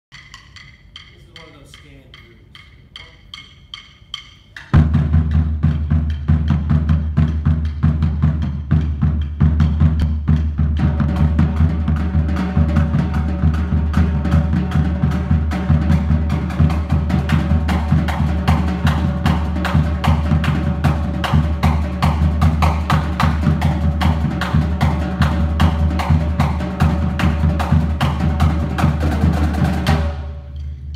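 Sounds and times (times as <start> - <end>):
snare drum strokes: 0.1 - 30.9
bass drum beat: 4.7 - 30.9.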